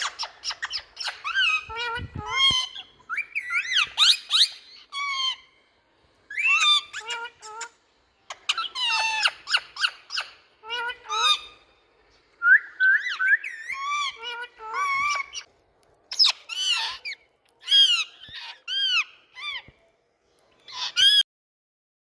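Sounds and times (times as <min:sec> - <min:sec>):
parrots screeching: 0:00.0 - 0:05.6, 0:06.3 - 0:11.7, 0:12.9 - 0:15.5, 0:16.1 - 0:19.8, 0:20.6 - 0:21.2.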